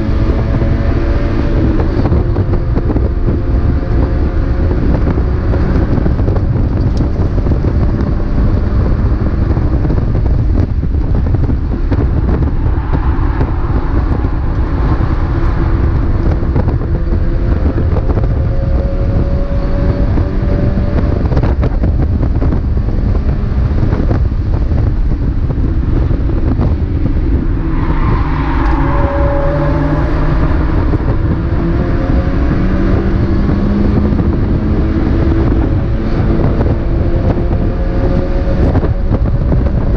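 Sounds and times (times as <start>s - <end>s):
race car engine revving: 0.0s - 39.9s
wind and road noise: 0.0s - 39.9s.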